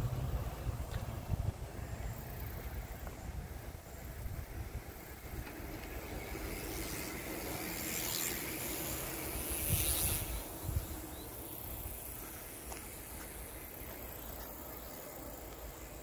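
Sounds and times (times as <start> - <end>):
low wind rumble: 0.0 - 13.8
wind rustling grass leaves: 0.0 - 16.0.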